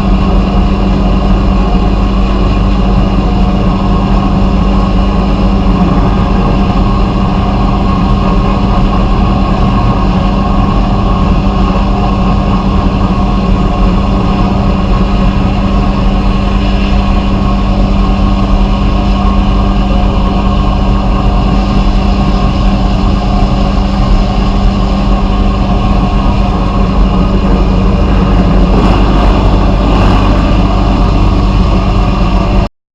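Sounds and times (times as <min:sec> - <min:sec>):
machine humming and hissing: 0:00.0 - 0:32.7.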